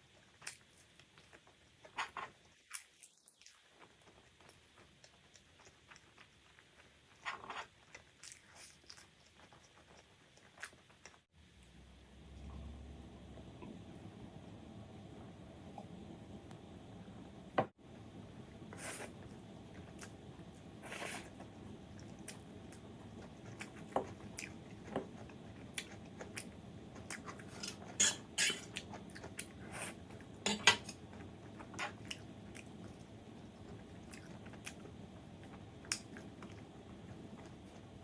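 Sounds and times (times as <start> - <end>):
quiet chewing: 0.0 - 12.6, 18.7 - 28.0, 28.7 - 38.0.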